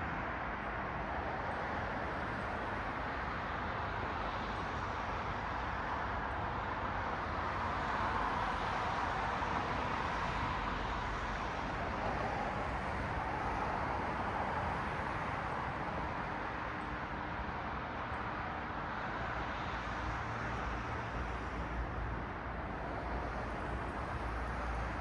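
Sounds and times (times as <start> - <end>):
cars passing on city street: 0.0 - 25.0.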